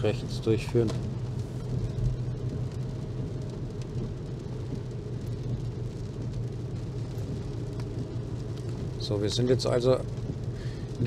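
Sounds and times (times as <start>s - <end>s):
low engine hum: 0.0s - 11.0s
tyres hissing on wet road: 0.0s - 11.0s.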